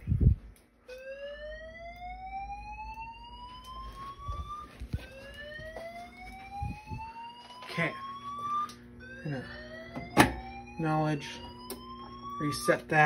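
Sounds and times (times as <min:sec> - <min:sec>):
fire alarm whoop tone: 0:00.8 - 0:13.0.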